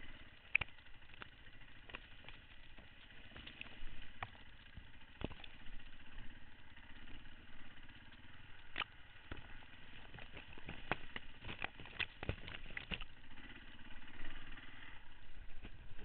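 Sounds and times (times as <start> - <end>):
branches striking bike: 0.0 - 14.2
dirt bike engine running low revs: 0.0 - 16.0.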